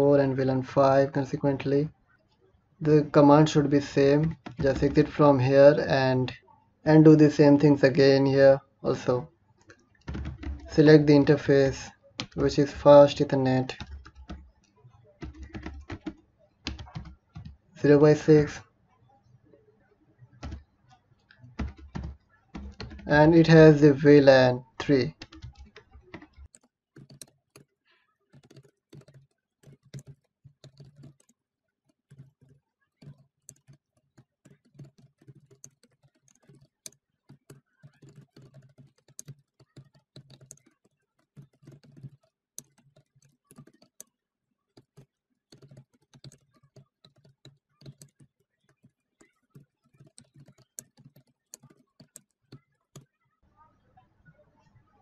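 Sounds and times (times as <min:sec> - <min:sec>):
faint keyboard typing: 0:00.0 - 0:55.0.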